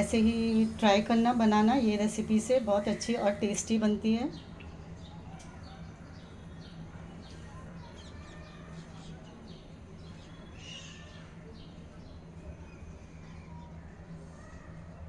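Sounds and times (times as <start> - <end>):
birds chirping: 0.0 - 14.2
steady low hum: 0.0 - 15.0.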